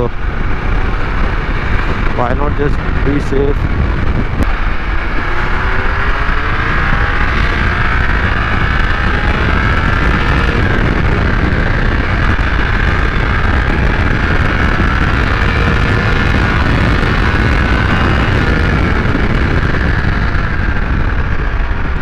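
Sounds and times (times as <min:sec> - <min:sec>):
motorcycle engine revving high: 0:00.0 - 0:22.0
wind rumble on microphone: 0:00.0 - 0:22.0.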